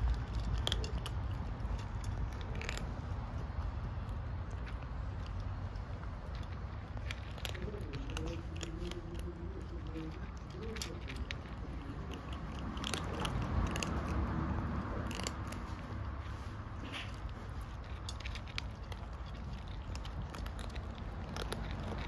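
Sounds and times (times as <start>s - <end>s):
kittens crunching dry kibble: 0.0s - 22.0s.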